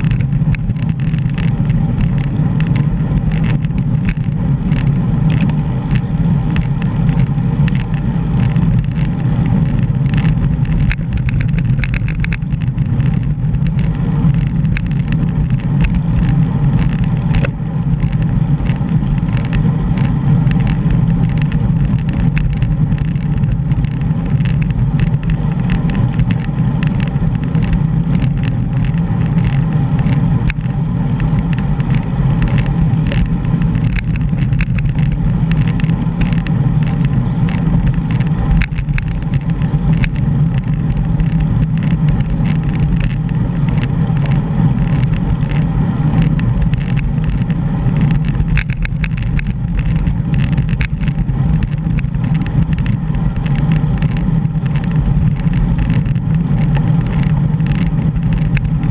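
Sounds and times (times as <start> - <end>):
bicycle clicks and rattles: 0.0 - 58.9
wind rush over microphone: 0.0 - 58.9.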